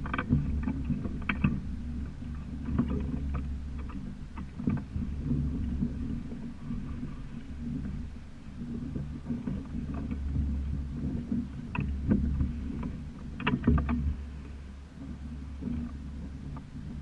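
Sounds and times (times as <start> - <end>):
water and wind rushing: 0.0 - 17.0.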